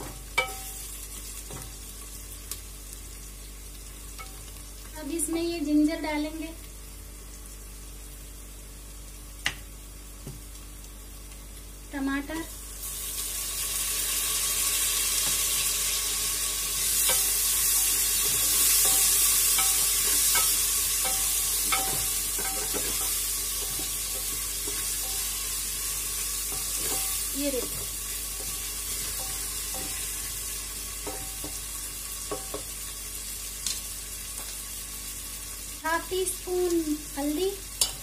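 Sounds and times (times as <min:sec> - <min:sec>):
tomato and onions sizzling: 0:00.0 - 0:38.0.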